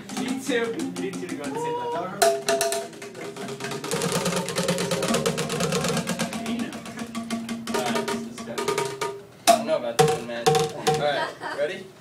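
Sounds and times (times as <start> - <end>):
struck tuned instruments: 0.0 - 11.1.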